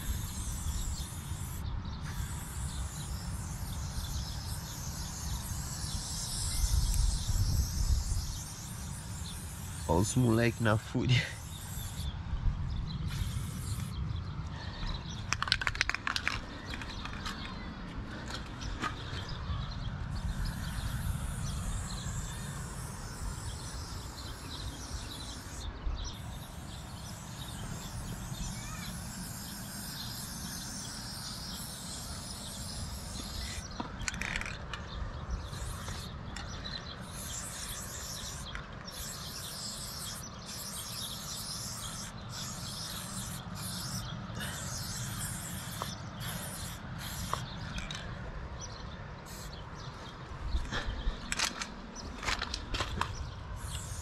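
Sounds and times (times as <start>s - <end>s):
spray paint can hissing: 0.0s - 12.2s, 12.8s - 14.1s, 15.0s - 17.6s, 20.1s - 48.0s, 49.2s - 50.1s, 52.2s - 54.0s.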